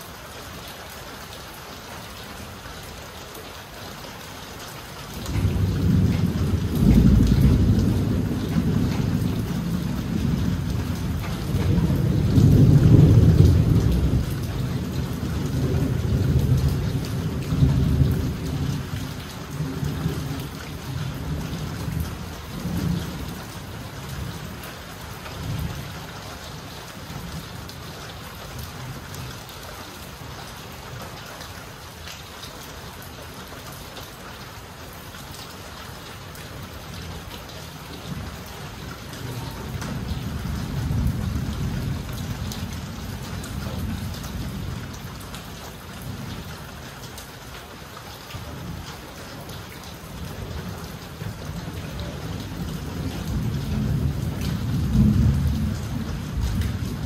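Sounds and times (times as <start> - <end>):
patter of raindrops: 0.0 - 57.0
steady rain hissing: 0.0 - 57.0.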